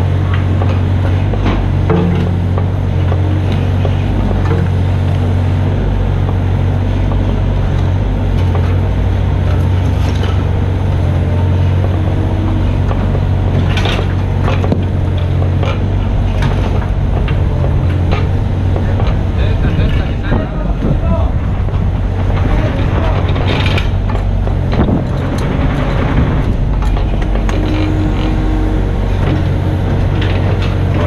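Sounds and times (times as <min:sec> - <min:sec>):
excavator diesel engine running: 0:00.0 - 0:31.0
machine knocks and clatter: 0:00.0 - 0:31.0.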